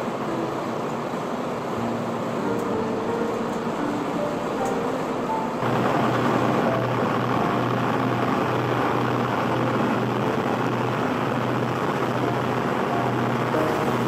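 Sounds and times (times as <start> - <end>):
broad rushing noise: 0.0 - 14.0
ferry engine drone: 0.0 - 14.0.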